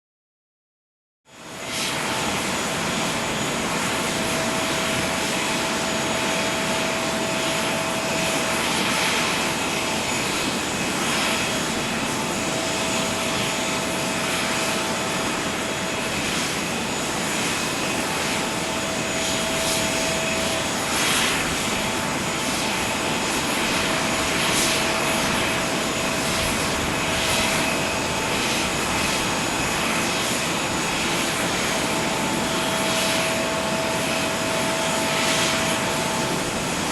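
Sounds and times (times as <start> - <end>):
jet airliner rushing whine: 1.4 - 36.9.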